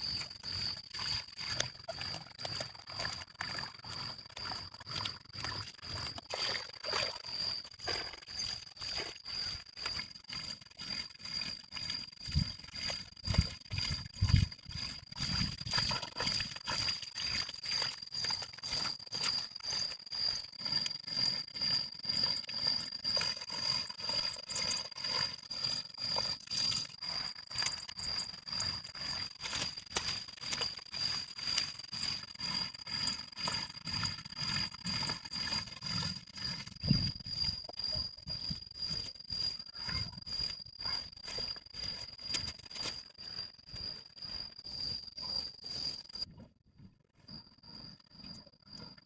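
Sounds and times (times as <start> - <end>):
steady high-pitched tone: 0.0 - 29.6, 30.6 - 46.5.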